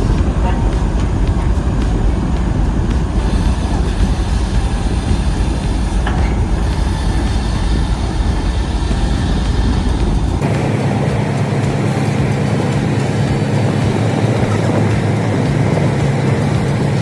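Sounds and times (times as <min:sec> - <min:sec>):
large vehicle running rumble: 0:00.0 - 0:17.0
smooth hum: 0:00.0 - 0:17.0.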